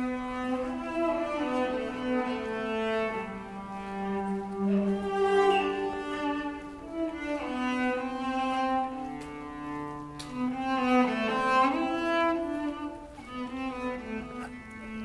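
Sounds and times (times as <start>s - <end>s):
bowed cello notes: 0.0s - 15.0s.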